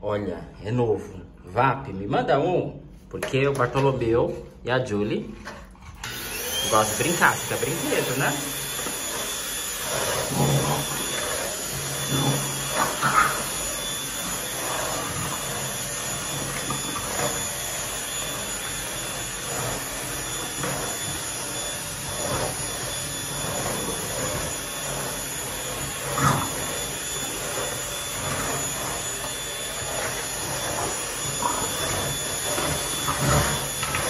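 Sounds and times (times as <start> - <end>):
stick vacuum cleaner running: 3.1 - 34.0.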